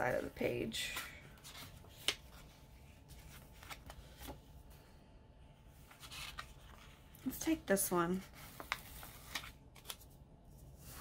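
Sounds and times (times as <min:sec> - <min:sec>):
paper pages rustling: 0:00.1 - 0:04.5, 0:05.7 - 0:07.5, 0:08.2 - 0:11.0.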